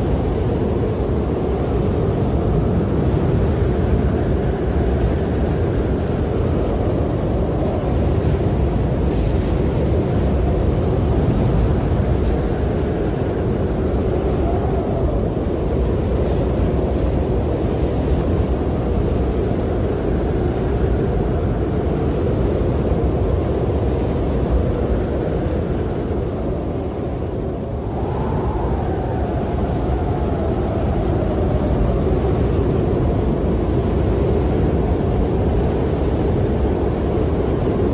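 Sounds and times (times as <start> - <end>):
howling snowstorm wind: 0.0 - 37.9.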